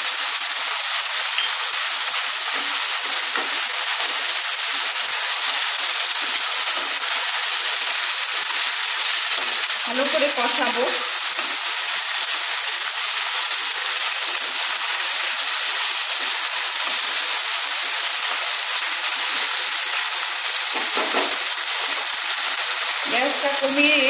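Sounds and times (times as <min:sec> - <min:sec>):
potatoes sizzling in hot oil: 0:00.0 - 0:24.0.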